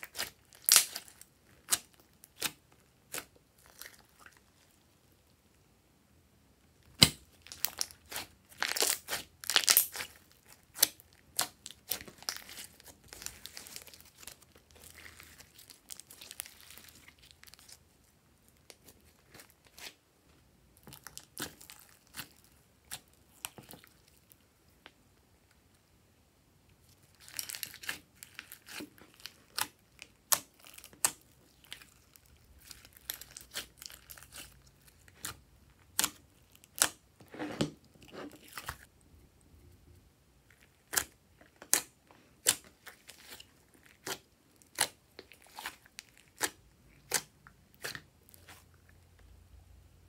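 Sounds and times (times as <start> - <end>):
slime squelch: 0.0 - 5.4, 6.8 - 25.0, 26.7 - 49.5.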